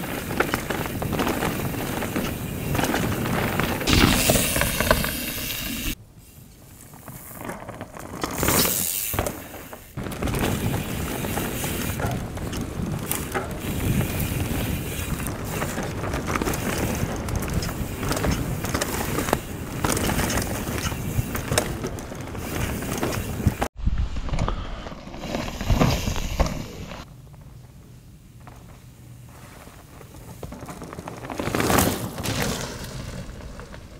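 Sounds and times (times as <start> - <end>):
bike and chain rattling: 0.0 - 23.7, 25.2 - 33.9
bike tyres crunching on dirt: 0.0 - 33.9.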